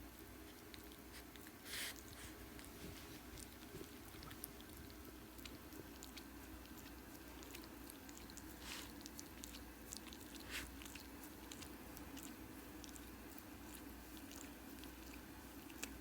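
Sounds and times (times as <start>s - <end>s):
dogs licking fur: 0.0s - 16.0s
low room hum: 0.0s - 16.0s
dog slurps: 0.4s - 16.0s.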